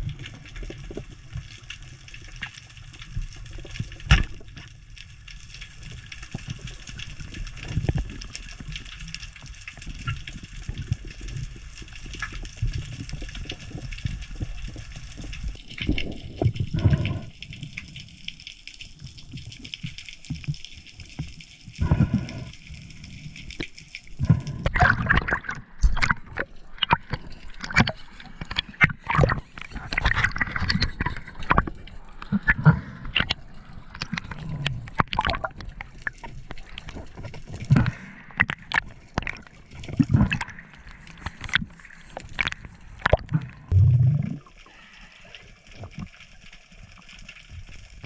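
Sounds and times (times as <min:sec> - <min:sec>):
underwater water noise: 0:00.0 - 0:48.0.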